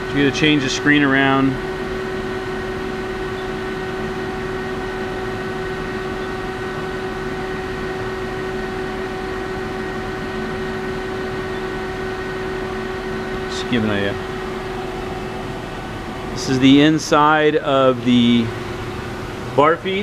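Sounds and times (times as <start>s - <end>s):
idle lathe humming: 0.0s - 20.0s.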